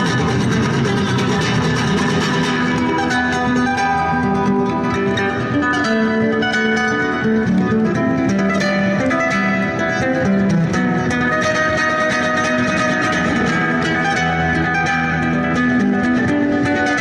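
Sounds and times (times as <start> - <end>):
solo acoustic guitar: 0.0 - 17.0.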